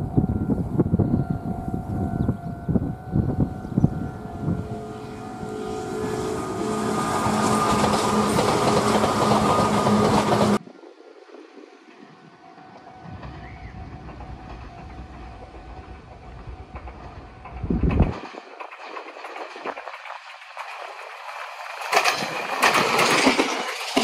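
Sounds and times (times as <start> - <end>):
distant train low rumble: 0.0 - 24.0
electric train rushing past: 0.0 - 24.0.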